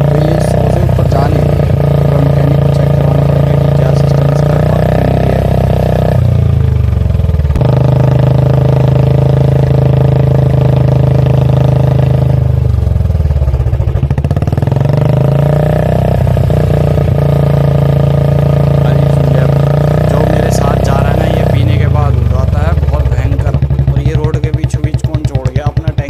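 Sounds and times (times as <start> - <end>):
motorcycle engine at speed: 0.0 - 26.0.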